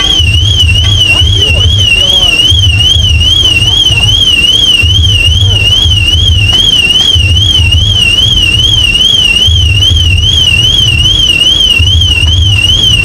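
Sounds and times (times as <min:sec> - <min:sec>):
electronic alarm warbling: 0:00.0 - 0:13.0.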